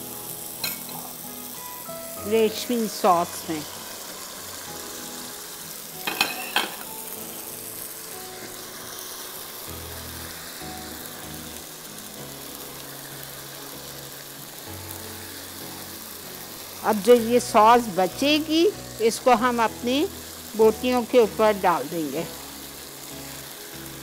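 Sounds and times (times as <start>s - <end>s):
faint background music: 0.0s - 24.0s
meat sizzling in a pan: 0.0s - 24.0s.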